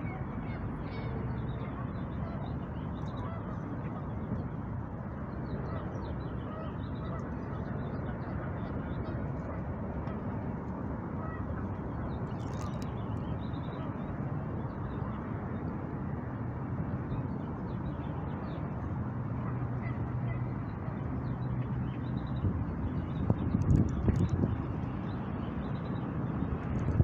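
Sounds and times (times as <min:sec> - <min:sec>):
urban background rumble: 0:00.0 - 0:27.0.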